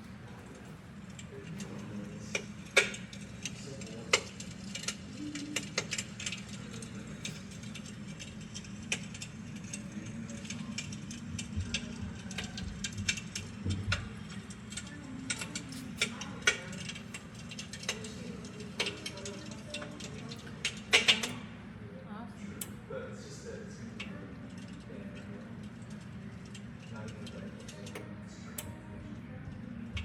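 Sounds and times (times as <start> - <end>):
electric fireplace crackling: 0.0 - 30.0
low electric hum: 0.0 - 30.0.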